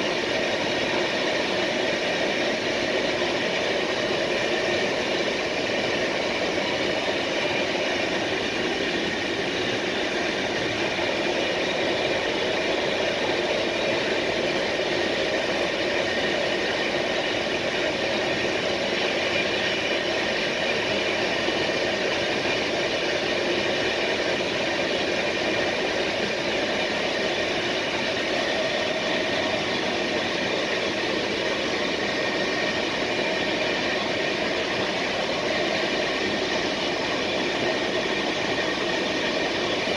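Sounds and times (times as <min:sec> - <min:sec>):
steady high whine: 0:00.0 - 0:39.9
train wheels rumbling on rail: 0:00.0 - 0:39.9.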